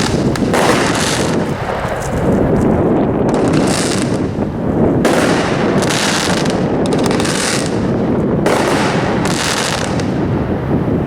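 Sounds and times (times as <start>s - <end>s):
fireworks bursts: 0.0s - 10.9s.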